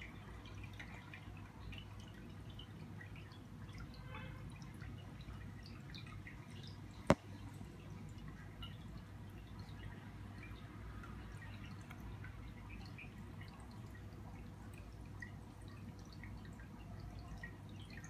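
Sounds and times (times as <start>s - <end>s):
aquarium water dripping: 0.0s - 18.0s.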